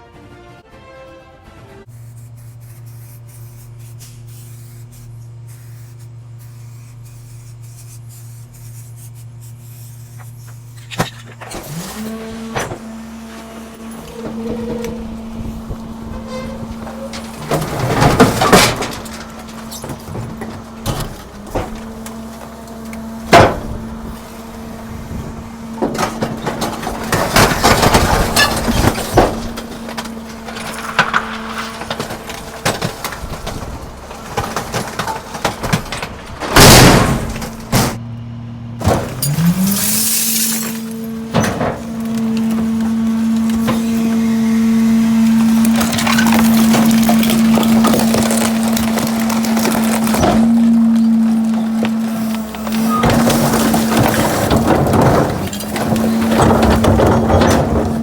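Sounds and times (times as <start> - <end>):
garbage truck engine running: 1.9 - 58.0
compactor crushing trash: 10.0 - 58.0.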